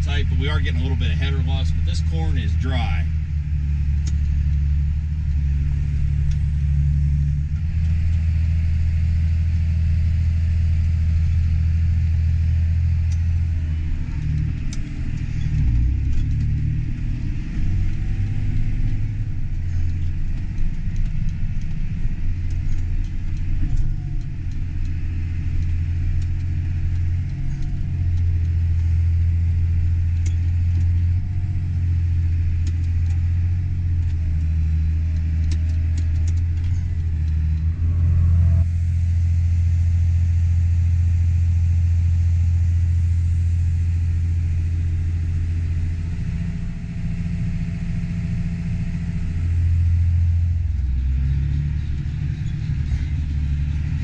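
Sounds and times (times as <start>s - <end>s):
tractor engine drone: 0.0s - 54.0s.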